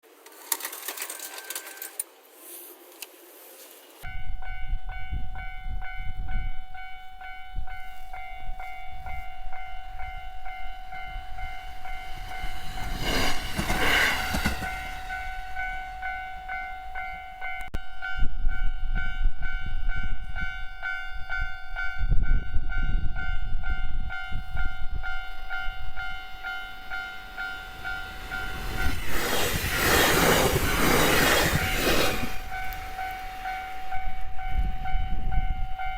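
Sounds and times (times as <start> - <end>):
level-crossing warning bell: 0.8 - 2.0, 4.0 - 35.9
train rumbling past: 4.0 - 35.9.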